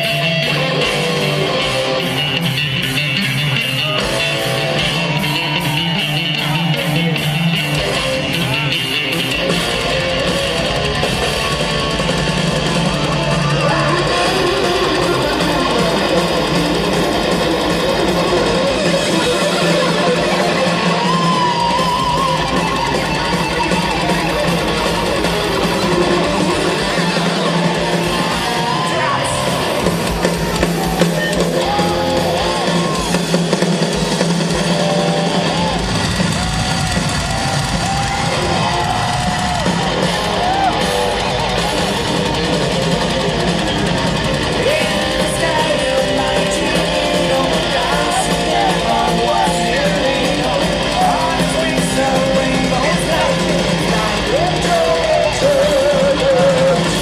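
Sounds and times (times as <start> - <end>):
bass line: 0.0 - 57.0
electric guitars: 0.0 - 57.0.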